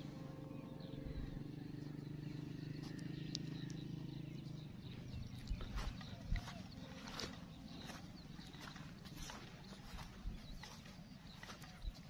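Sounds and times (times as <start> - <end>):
bird chirps: 0.0 - 12.0
footsteps on dry stubble: 0.0 - 12.0
steady low hum: 0.0 - 12.0.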